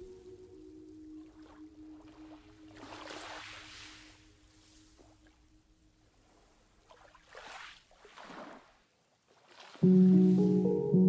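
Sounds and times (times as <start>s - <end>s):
water swishing in swells: 0.0s - 10.8s.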